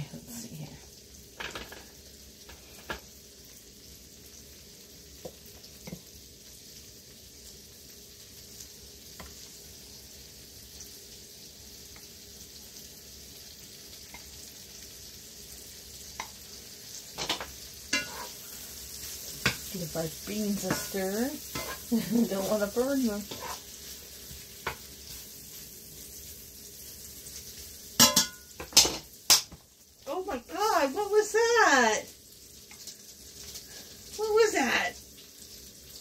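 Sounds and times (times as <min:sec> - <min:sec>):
beans sizzling in a pan: 0:00.0 - 0:36.0.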